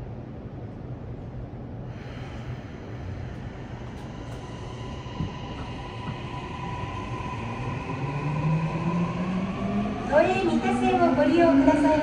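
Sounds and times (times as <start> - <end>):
subway train running noise: 0.0 - 12.0.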